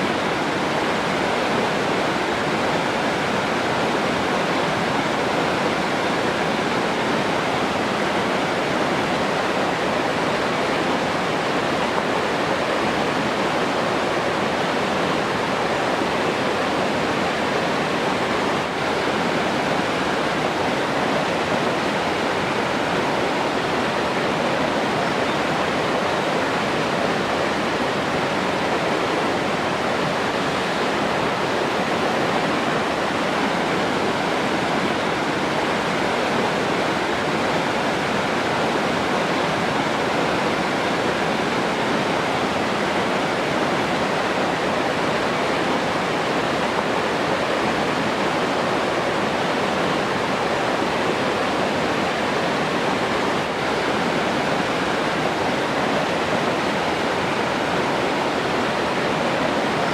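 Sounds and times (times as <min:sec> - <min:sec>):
rushing flowing water: 0:00.0 - 0:59.9.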